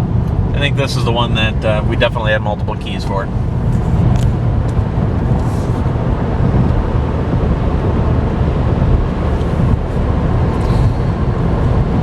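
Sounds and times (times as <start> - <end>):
road and tyre rumble in car: 0.0 - 12.0.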